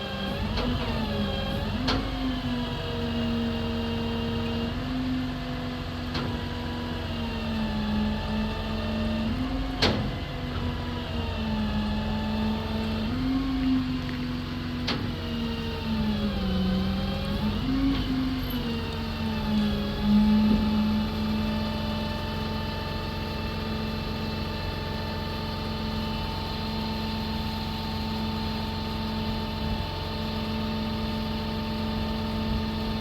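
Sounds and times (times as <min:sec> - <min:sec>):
truck engine whine: 0:00.0 - 0:33.0.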